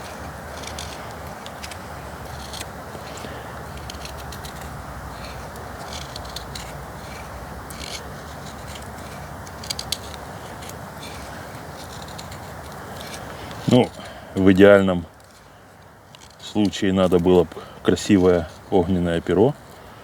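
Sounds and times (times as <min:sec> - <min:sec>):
knife scraping a stick: 0:00.0 - 0:19.8.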